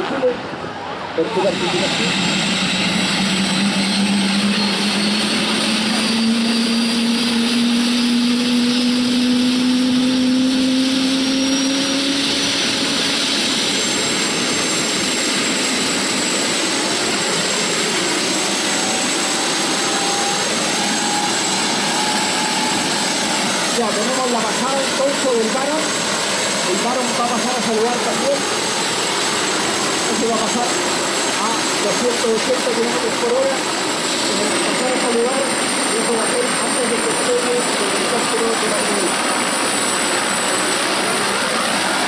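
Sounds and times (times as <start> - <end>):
helicopter rotor and engine: 0.0 - 42.0
turbine whine rising: 0.0 - 42.0.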